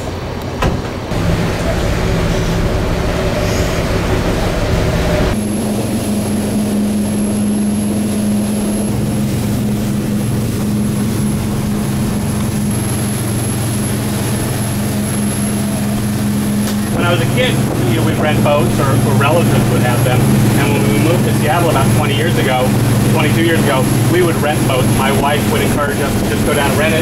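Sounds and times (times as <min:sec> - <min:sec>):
boat engines humming: 0:00.0 - 0:27.0
wind: 0:00.0 - 0:27.0
water rushing: 0:01.1 - 0:27.0.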